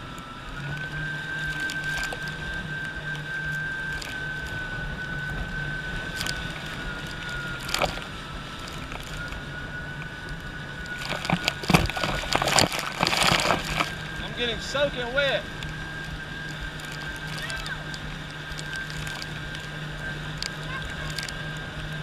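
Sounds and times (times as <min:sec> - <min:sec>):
jet ski engine whine: 0:00.0 - 0:22.0.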